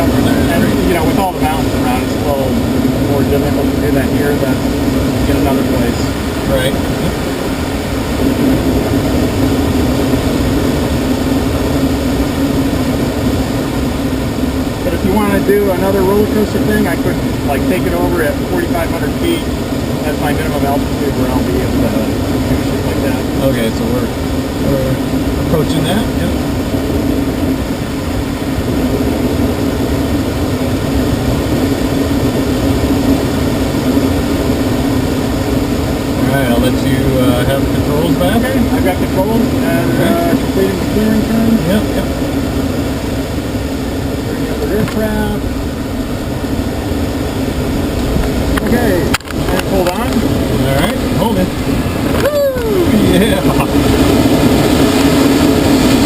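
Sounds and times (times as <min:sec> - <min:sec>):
low hum: 0:00.0 - 0:56.0
rushing airflow: 0:00.0 - 0:56.0.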